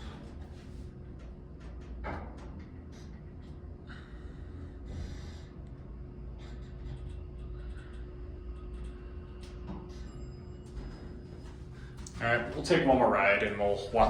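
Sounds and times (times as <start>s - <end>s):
elevator low rumble: 0.0s - 14.0s.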